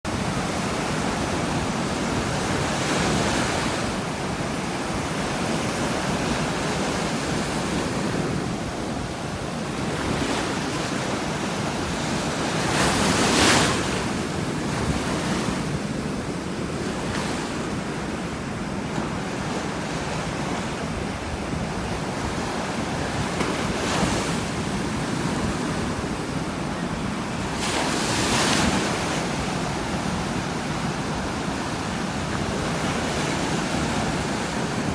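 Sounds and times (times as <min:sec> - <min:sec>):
ocean waves crashing: 0:00.1 - 0:34.9
wind on microphone: 0:00.1 - 0:34.9.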